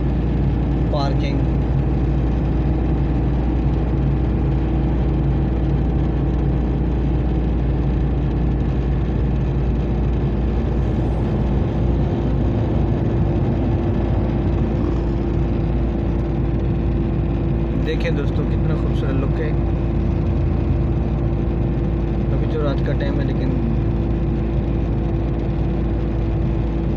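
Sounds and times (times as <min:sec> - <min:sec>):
vehicle engine and road noise: 0:00.0 - 0:26.9.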